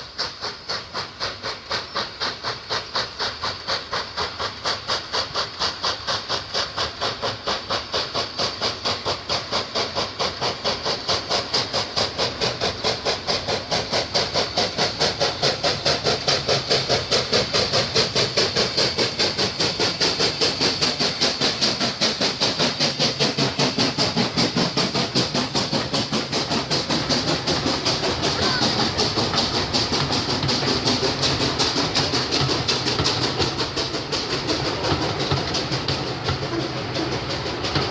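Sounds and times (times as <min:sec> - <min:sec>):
steam hissing: 0:00.0 - 0:37.9
steam locomotive chuffing: 0:00.0 - 0:37.9.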